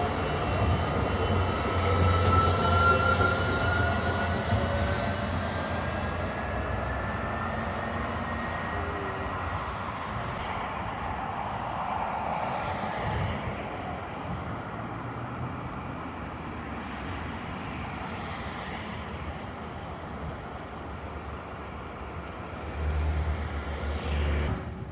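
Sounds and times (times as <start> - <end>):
road traffic passing: 0.0 - 24.9.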